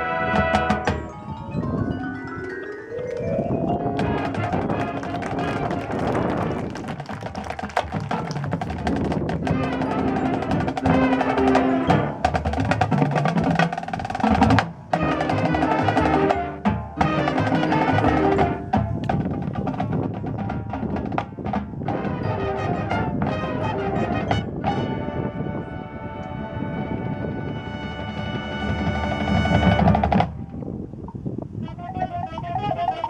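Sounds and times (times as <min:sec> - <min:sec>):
brass and woodwinds: 0:00.0 - 0:01.2, 0:03.2 - 0:30.4, 0:31.6 - 0:33.0
drumline and mallet percussion: 0:00.0 - 0:25.1, 0:27.8 - 0:30.4.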